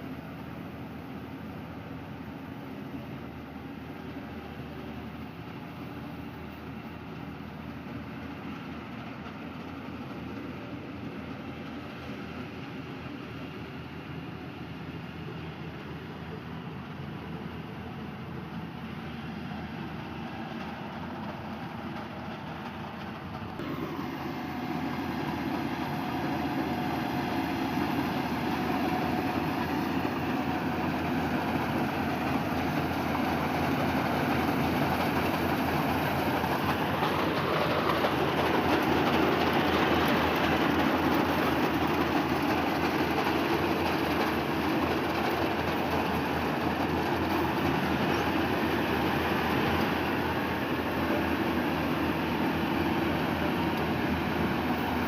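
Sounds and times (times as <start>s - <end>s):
engine-driven machine running: 0.0s - 55.0s.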